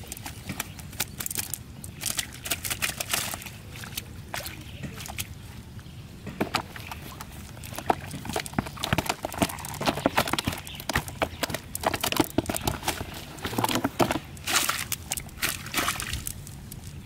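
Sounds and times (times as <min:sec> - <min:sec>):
fish flapping and slapping: 0:00.0 - 0:05.3, 0:06.4 - 0:17.0.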